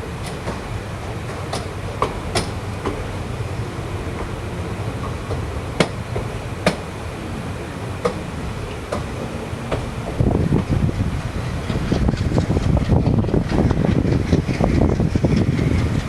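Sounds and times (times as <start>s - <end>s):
train coach rumble: 0.0s - 16.0s.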